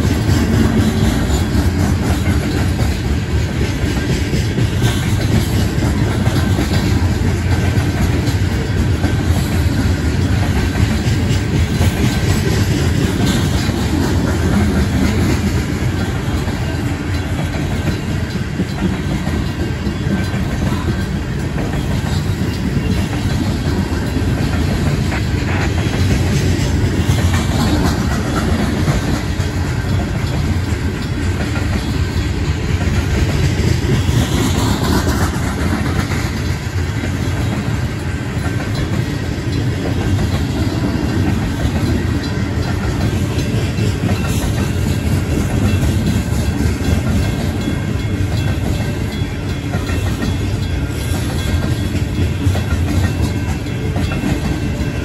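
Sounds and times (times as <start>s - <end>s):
crossing bells ringing: 0.0s - 55.0s
train wheels clattering on rail joints: 0.0s - 55.0s.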